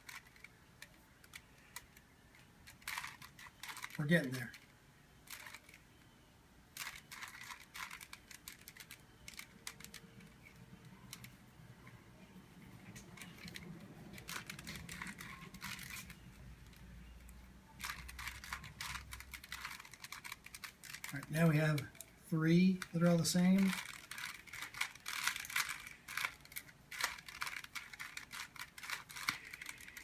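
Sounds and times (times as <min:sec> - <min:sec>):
plastic cube clicking and rattling: 0:00.0 - 0:05.8, 0:06.8 - 0:11.3, 0:13.0 - 0:22.2, 0:22.8 - 0:30.0.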